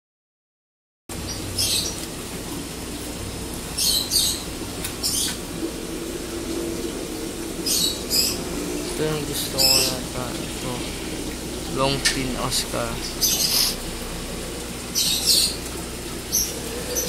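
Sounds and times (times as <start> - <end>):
aquarium sponge filter humming: 1.1 - 17.0.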